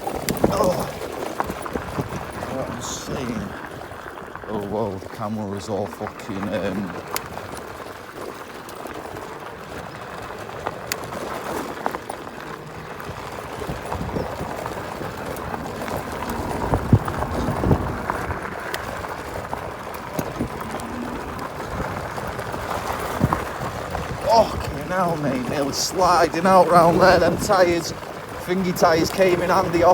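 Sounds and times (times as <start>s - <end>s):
electric scooter riding over rough ground: 0.0s - 29.9s.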